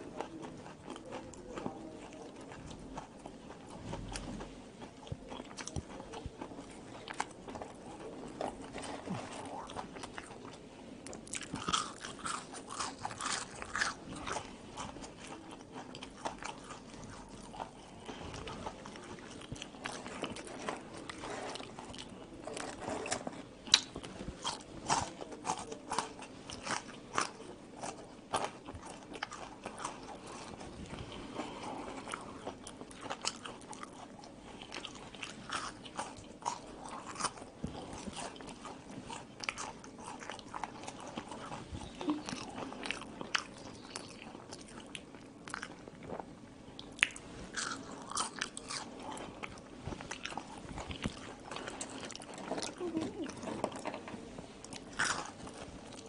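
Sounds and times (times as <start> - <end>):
person chewing crunchy fries: 0.0 - 56.0.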